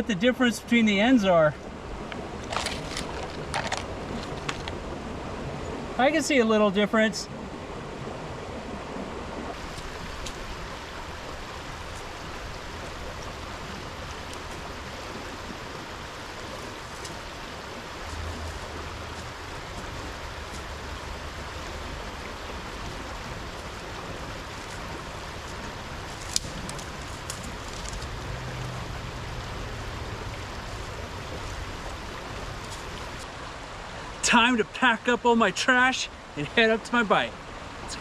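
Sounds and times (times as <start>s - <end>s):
creek water rushing: 0.0s - 38.0s.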